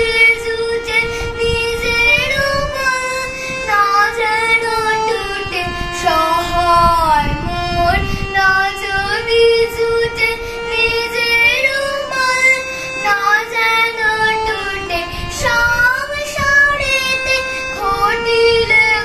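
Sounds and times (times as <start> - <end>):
girl singing: 0.0 - 19.0
harmonium playing: 0.0 - 19.0.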